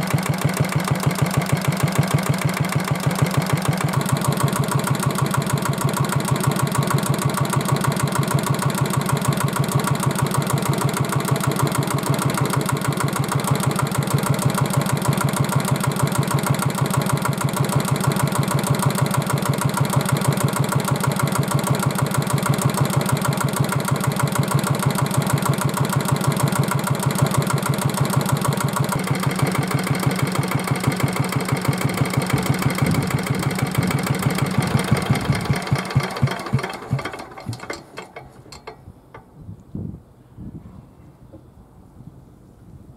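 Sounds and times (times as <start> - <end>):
diesel engine idling: 0.0 - 37.7.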